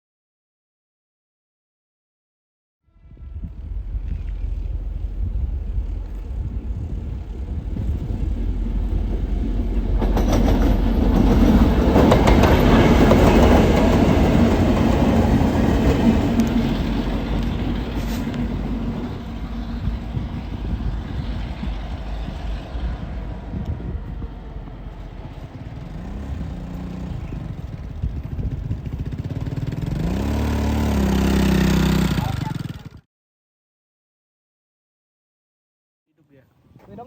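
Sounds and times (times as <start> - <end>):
train wheels rumbling on rails: 3.1 - 33.0.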